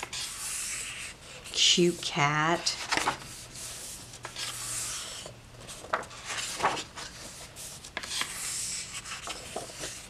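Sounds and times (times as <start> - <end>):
paper pages turning: 0.0 - 1.5, 2.6 - 10.0.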